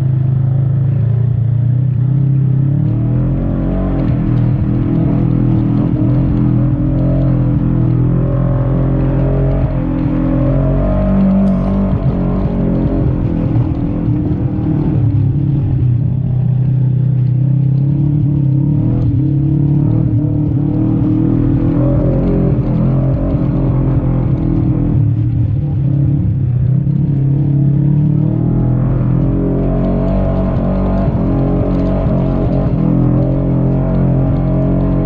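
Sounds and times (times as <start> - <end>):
utility vehicle engine droning: 0.0 - 35.0.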